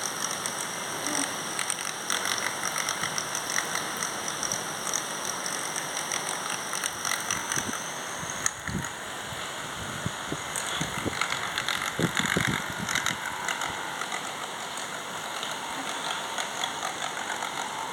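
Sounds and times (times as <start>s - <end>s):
small electric motor whining: 0.0s - 9.0s, 10.1s - 17.9s.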